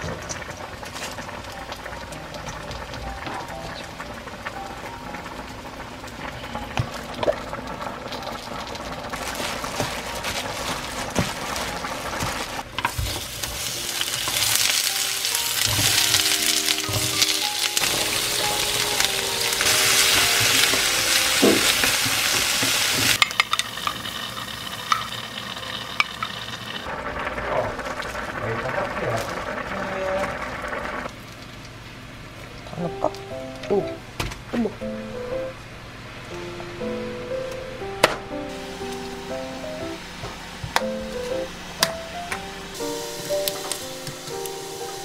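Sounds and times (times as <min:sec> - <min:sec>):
vegetables sizzling in frying pan: 0:00.0 - 0:32.3, 0:38.5 - 0:45.0.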